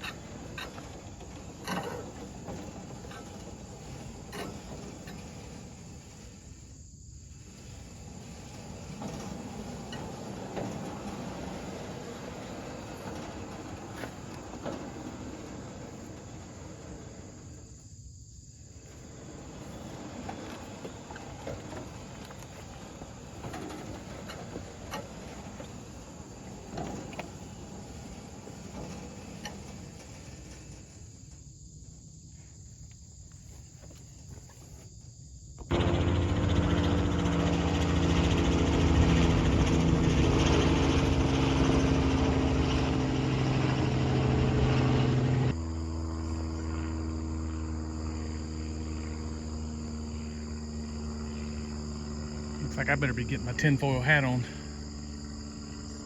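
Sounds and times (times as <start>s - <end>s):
engine running: 0.0s - 34.8s, 35.6s - 56.0s.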